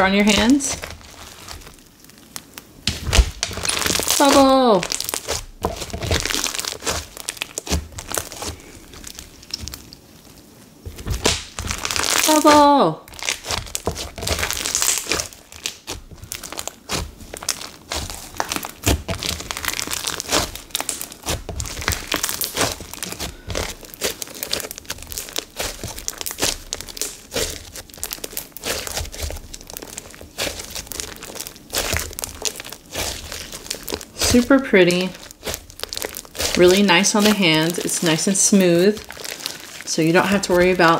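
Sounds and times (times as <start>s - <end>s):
slime crackling and popping: 0.0s - 40.9s.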